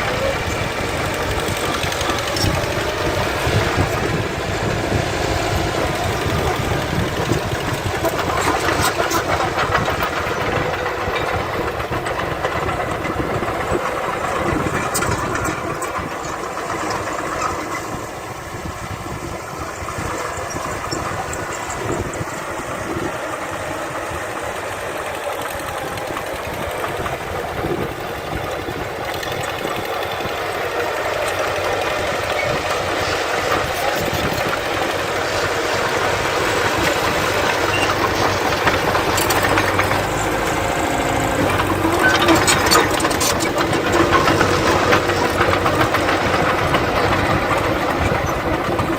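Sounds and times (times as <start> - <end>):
heavy machinery diesel engines: 0.0 - 48.9.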